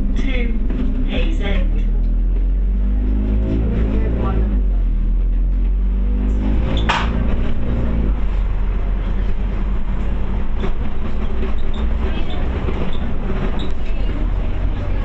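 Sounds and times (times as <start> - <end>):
bus engine and road noise: 0.0 - 15.0.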